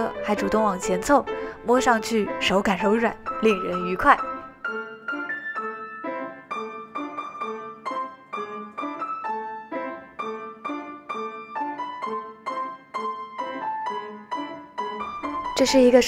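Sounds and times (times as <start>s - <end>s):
gentle piano notes: 0.0s - 16.0s.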